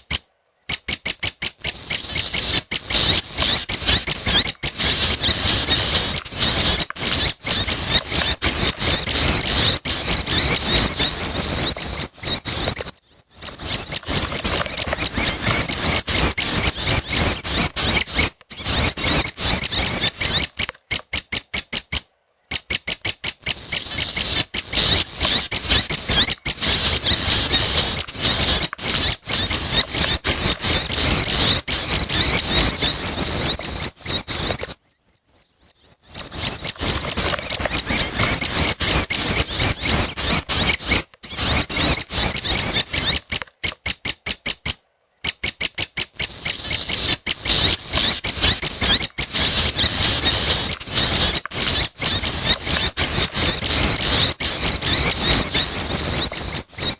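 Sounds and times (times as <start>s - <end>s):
bird chicks chattering: 0.0s - 56.9s.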